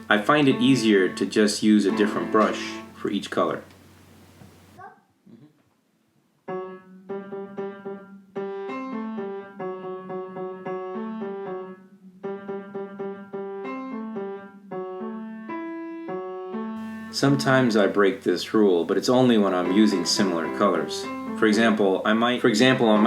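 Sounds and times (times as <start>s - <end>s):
piano music: 0.0s - 3.6s, 6.4s - 23.0s.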